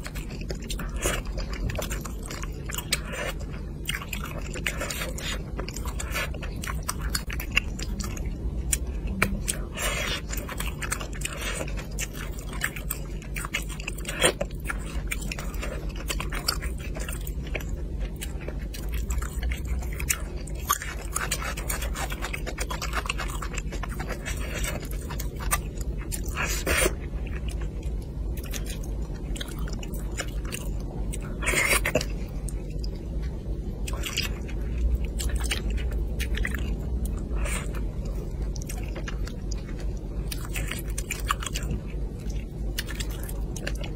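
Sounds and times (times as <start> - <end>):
chewing with wet mouth clicks: 0.0 - 43.9
steady low hum: 0.0 - 43.9.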